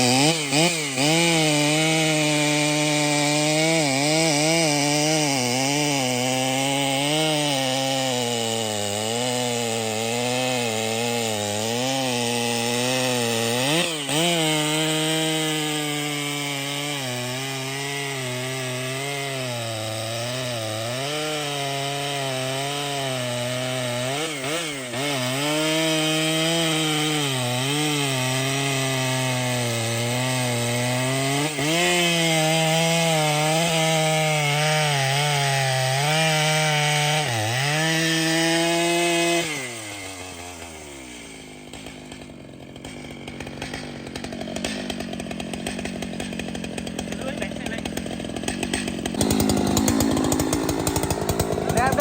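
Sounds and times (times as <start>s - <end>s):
chainsaw cutting through wood: 0.0s - 52.0s.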